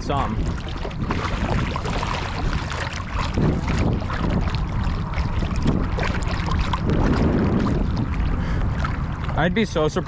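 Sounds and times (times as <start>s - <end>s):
river water flowing: 0.0s - 10.0s
small water splashes: 0.0s - 10.0s
wind rumbling on microphone: 0.0s - 10.0s.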